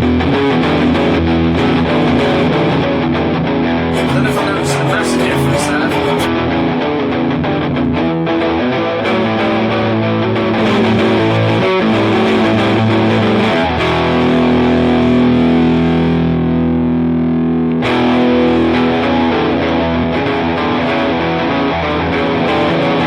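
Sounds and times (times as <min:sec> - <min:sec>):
distorted electric guitar riffs: 0:00.0 - 0:23.0.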